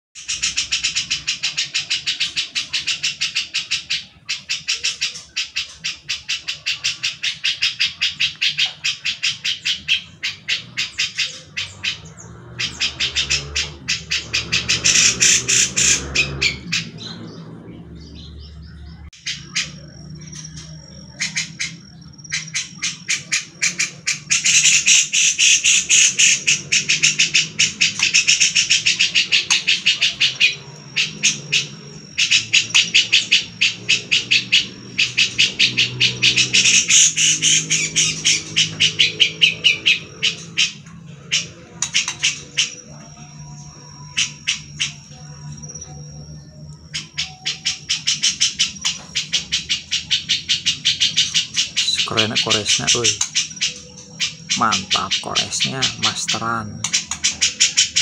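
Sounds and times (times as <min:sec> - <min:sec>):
bird chattering calls: 0:00.2 - 0:58.0.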